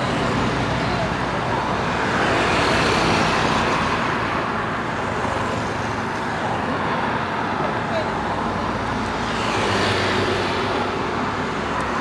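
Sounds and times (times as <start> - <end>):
roadside traffic: 0.0 - 12.0.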